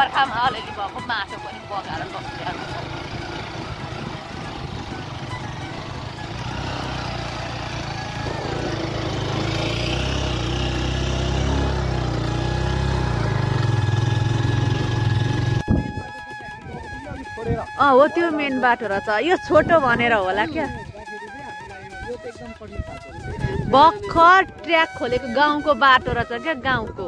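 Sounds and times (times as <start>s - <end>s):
motorcycle engine rumble: 0.0s - 27.0s
road noise: 0.0s - 27.0s.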